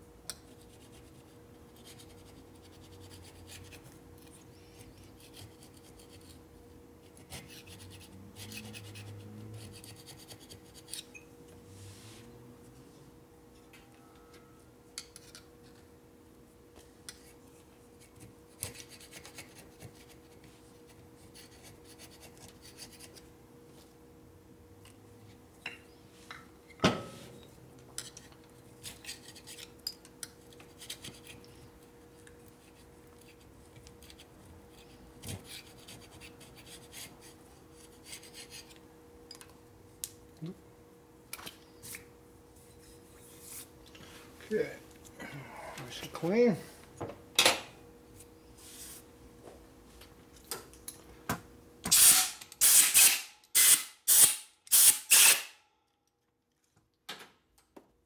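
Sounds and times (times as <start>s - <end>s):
steady low hum: 0.0s - 51.8s.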